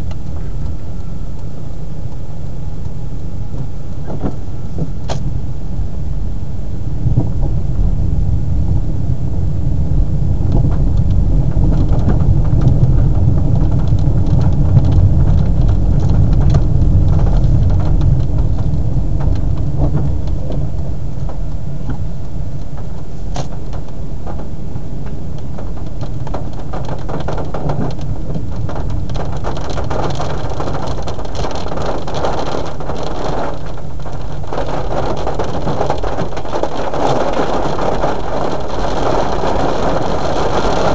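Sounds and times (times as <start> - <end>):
engine and road rumble: 0.0 - 40.9
rain hitting car: 7.0 - 40.9.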